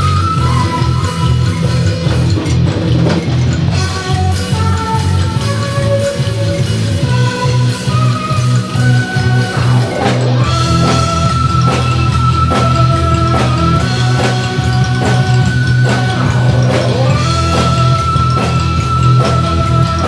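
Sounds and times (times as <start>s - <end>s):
electric guitar: 0.0s - 20.0s
steady bass: 0.0s - 20.0s
steady drum beat: 0.0s - 20.0s
synthesizer: 0.0s - 20.0s.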